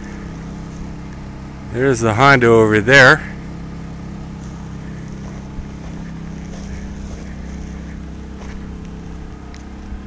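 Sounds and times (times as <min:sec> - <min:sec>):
generators humming: 0:00.0 - 0:10.0.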